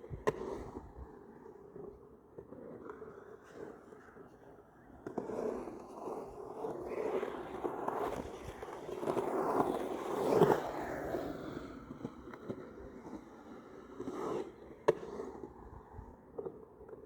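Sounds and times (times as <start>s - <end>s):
skateboard wheels rolling: 0.0s - 17.0s.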